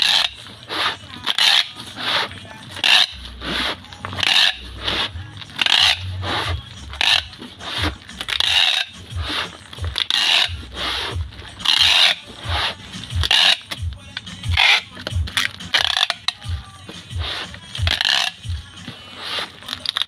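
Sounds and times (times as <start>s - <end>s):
packing tape screeching off roll: 0.0s - 20.0s.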